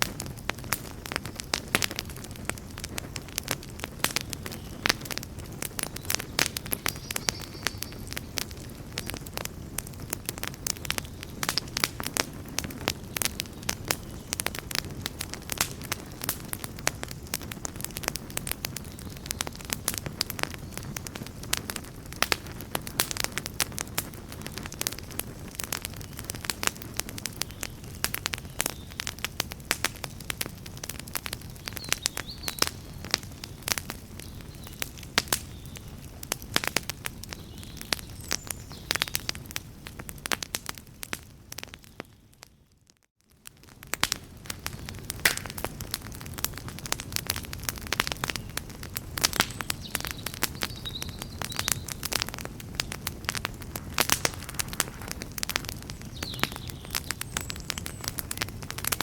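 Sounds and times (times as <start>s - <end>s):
fire crackling and popping: 0.0s - 59.0s
rumble of campfire flames: 0.0s - 59.0s.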